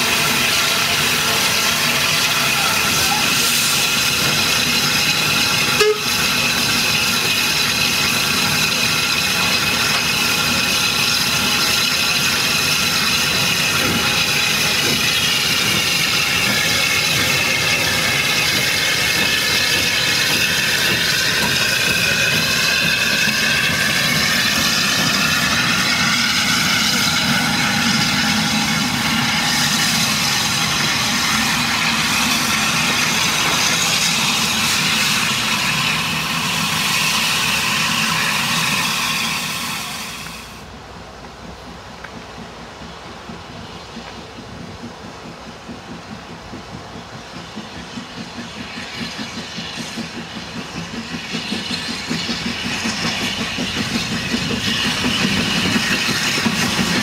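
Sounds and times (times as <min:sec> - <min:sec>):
steam locomotive hissing: 0:00.0 - 0:41.0, 0:41.7 - 0:57.0.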